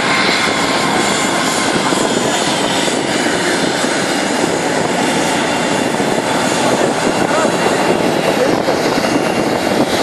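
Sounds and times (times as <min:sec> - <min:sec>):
jet engines at taxi power: 0:00.0 - 0:10.0.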